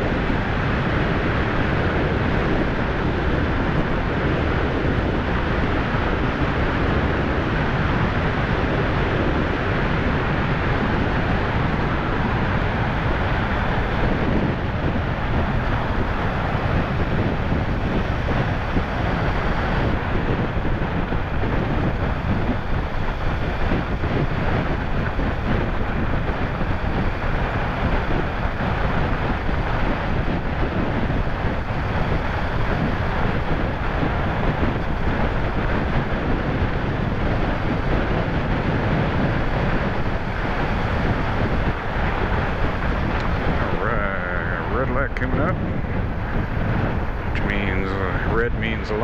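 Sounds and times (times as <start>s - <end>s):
road noise: 0.0s - 49.0s
wind rushing over microphone: 0.0s - 49.0s.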